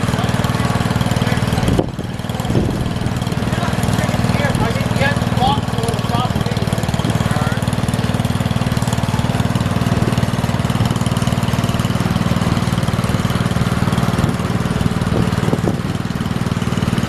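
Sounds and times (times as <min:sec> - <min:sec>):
small tractor engine idling: 0:00.0 - 0:17.0.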